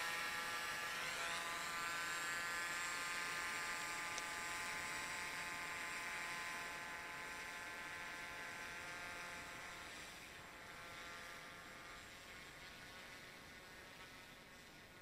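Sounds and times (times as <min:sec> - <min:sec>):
drone propellers buzzing: 0:00.0 - 0:13.1.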